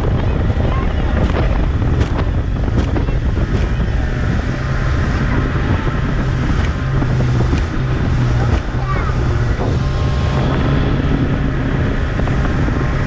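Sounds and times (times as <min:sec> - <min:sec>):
outboard motor running: 0:00.0 - 0:13.0
water rushing past hull: 0:00.0 - 0:13.0
wind buffeting microphone: 0:00.0 - 0:13.0.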